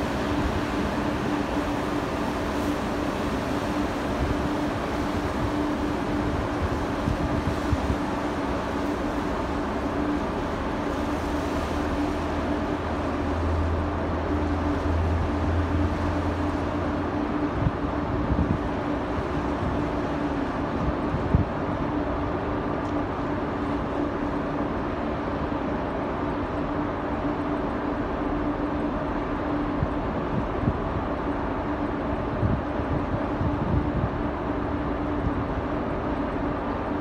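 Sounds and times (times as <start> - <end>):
rushing water: 0.0 - 37.0
ship engines humming: 0.0 - 37.0
wind: 0.0 - 37.0.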